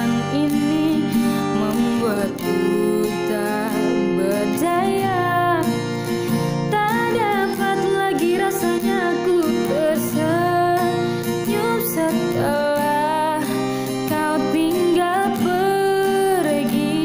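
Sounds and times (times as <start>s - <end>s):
acoustic guitar strummed: 0.0s - 17.0s
person singing: 0.0s - 17.0s.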